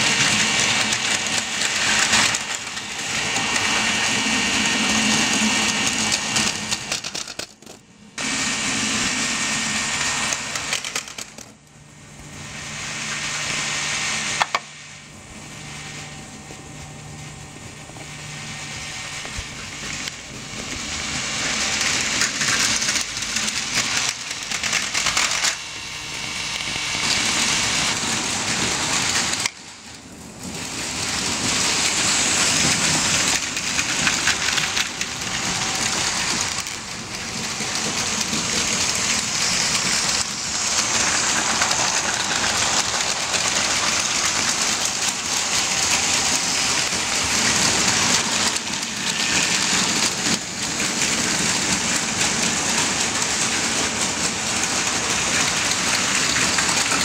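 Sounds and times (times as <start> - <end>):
toy train motors whirring: 0.0 - 11.7, 12.6 - 14.8, 18.9 - 57.0
wheels rattling over plastic track: 0.0 - 11.7, 19.2 - 57.0.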